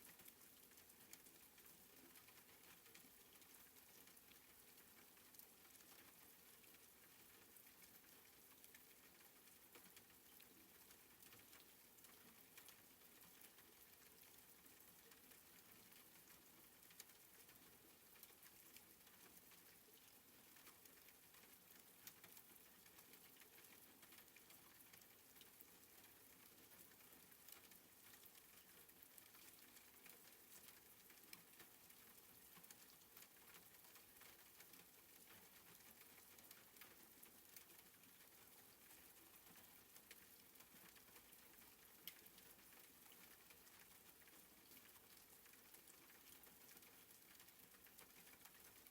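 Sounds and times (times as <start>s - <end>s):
soft rain falling: 0.0s - 48.9s.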